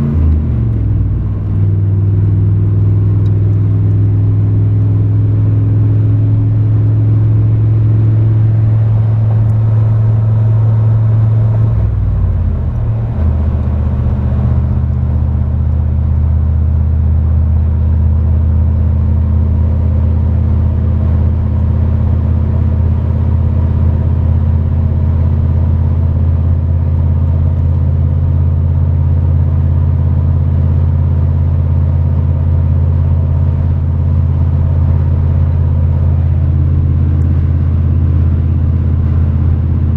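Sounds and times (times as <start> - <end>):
pickup truck engine driving: 0.0 - 39.9.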